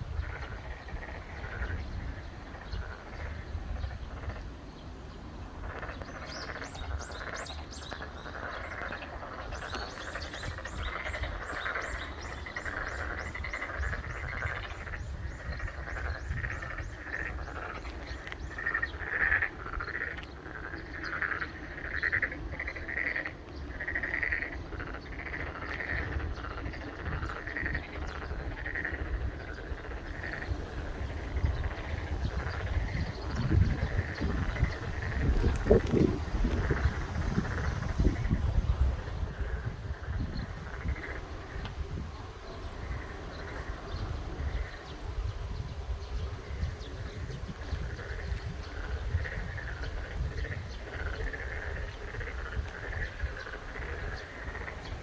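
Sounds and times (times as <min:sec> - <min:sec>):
frogs bleating calls: 0:00.0 - 0:04.7, 0:05.3 - 0:55.0.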